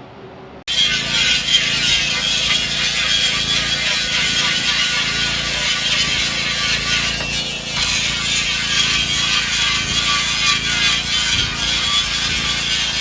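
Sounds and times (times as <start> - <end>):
pump machinery hiss: 0.7 - 13.0.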